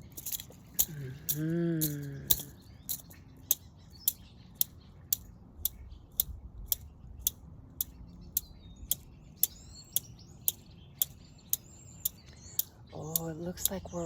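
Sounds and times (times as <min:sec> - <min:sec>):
faint bird chirps: 0:00.0 - 0:14.0
mechanical ticking: 0:00.0 - 0:14.0.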